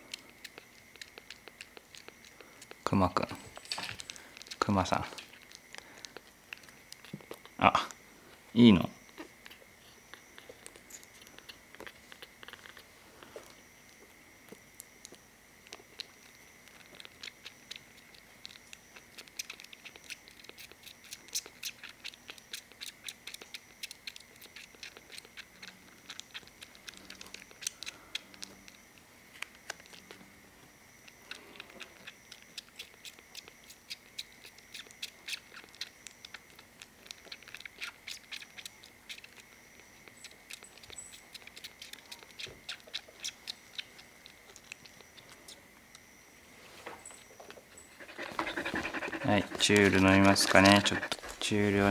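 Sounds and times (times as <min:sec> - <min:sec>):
kitten suckling from bottle: 0:00.0 - 0:46.0, 0:47.9 - 0:51.9.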